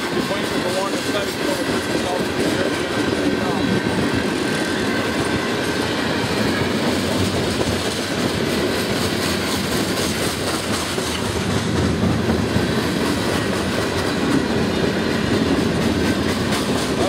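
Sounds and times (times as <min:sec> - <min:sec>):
steel wheels rumbling on rail: 0:00.0 - 0:17.0
wheels clicking over rail joints: 0:00.0 - 0:17.0.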